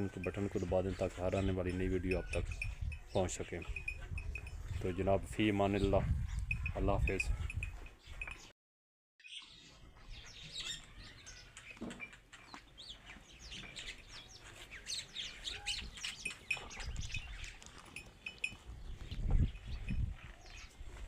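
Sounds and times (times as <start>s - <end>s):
small birds chirping: 0.0s - 8.5s, 9.2s - 21.0s.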